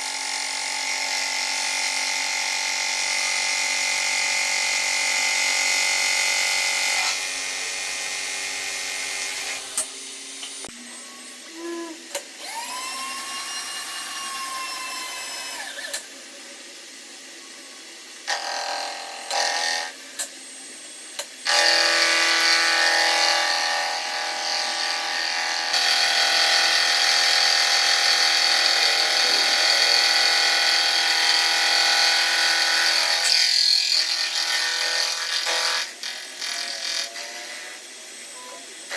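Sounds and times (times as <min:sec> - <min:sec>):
power tool motor whine: 0:00.0 - 0:38.9.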